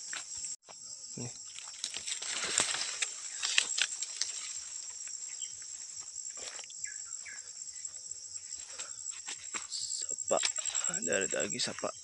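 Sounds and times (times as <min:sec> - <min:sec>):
insects buzzing: 0:00.0 - 0:12.0
footsteps through grass and leaves: 0:01.5 - 0:12.0.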